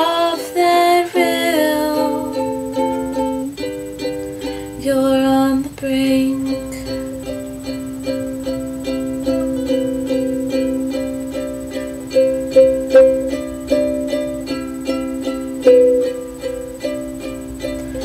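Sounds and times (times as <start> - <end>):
fingerpicked ukulele: 0.0 - 18.0.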